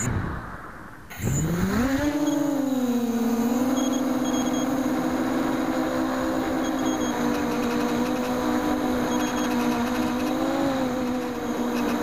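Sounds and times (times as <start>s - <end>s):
quadcopter motors whining: 1.1s - 12.0s.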